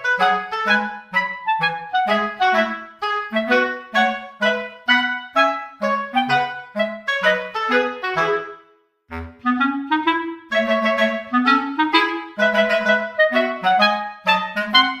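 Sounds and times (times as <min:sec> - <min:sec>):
bouncy woodwind-like melody: 0:00.0 - 0:15.0.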